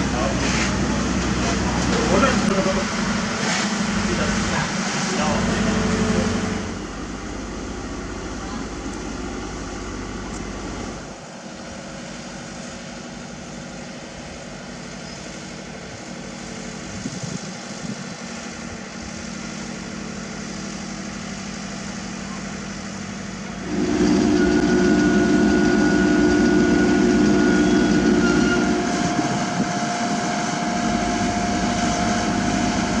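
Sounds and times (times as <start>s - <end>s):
louder nearer engine: 0.0s - 33.0s
paving machinery engines droning: 0.0s - 33.0s.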